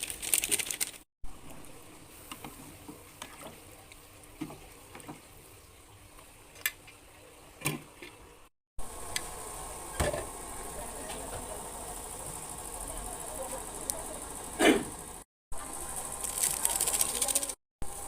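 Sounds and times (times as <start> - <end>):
crackling sizzle: 0.0 - 18.0.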